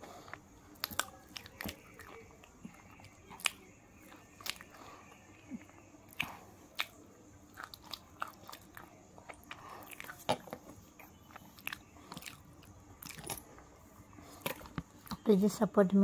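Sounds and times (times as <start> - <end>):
wet chewing mouth sounds: 0.0 - 13.4, 14.1 - 15.3.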